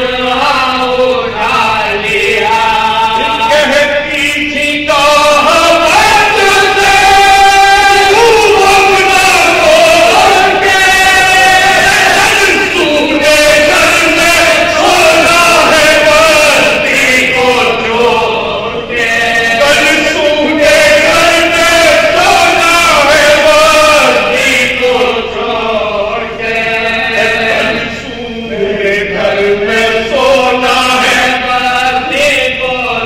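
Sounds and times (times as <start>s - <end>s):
men chanting unaccompanied: 0.0s - 33.0s.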